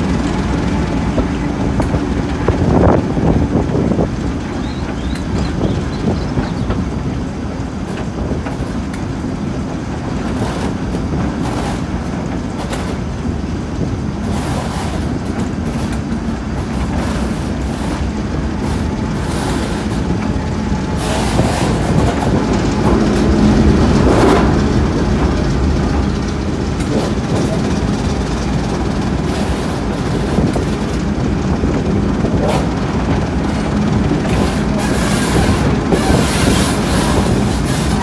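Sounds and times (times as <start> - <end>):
diesel engine humming: 0.0 - 38.0
wheel and rail noise: 0.0 - 38.0.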